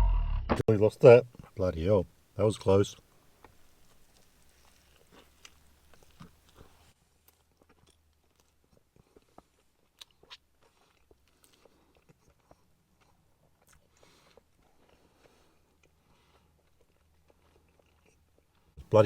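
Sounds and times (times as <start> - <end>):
chewing burger: 3.2 - 18.9.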